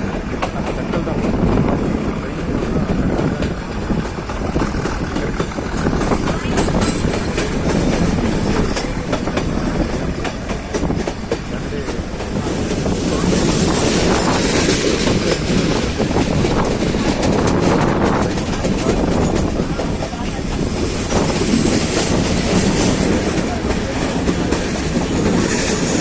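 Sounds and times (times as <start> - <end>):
train wheels clattering on rails: 0.0 - 26.0.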